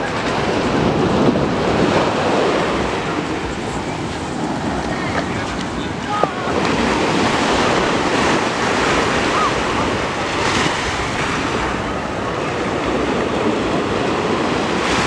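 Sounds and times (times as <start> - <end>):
small waves washing onto shore: 0.0 - 15.0
wind buffeting microphone: 0.0 - 15.0.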